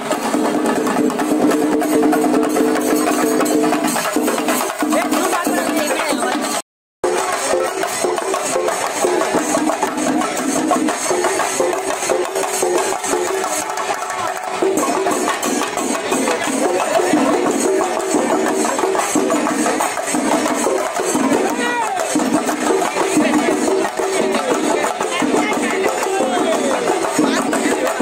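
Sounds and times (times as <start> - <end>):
loud music with fast percussion: 0.0 - 28.0.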